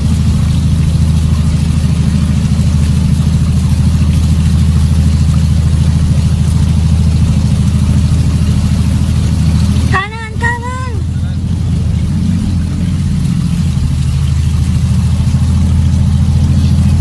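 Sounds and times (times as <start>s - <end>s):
vehicle engine under load: 0.0s - 17.0s
water rushing: 0.0s - 17.0s.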